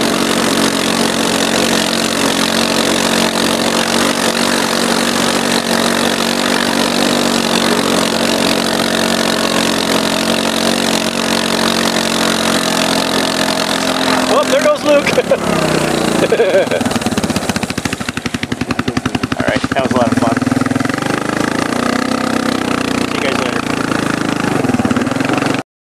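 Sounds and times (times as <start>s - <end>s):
quad bike engine running: 0.0s - 25.6s.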